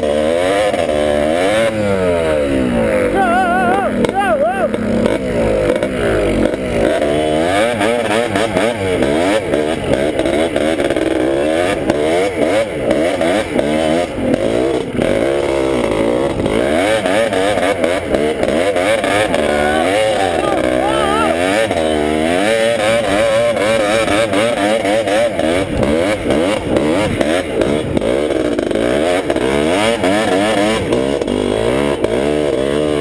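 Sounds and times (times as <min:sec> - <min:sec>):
two-stroke engine revving: 0:00.0 - 0:33.0.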